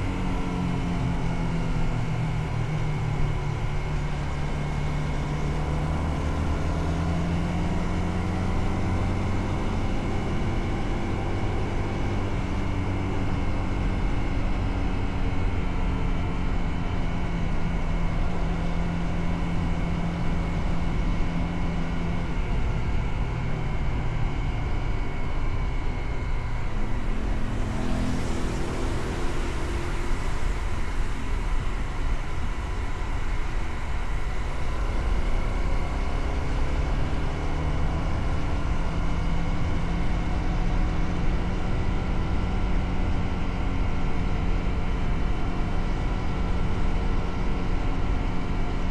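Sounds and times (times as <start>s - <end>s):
road and wind noise: 0.0s - 48.9s.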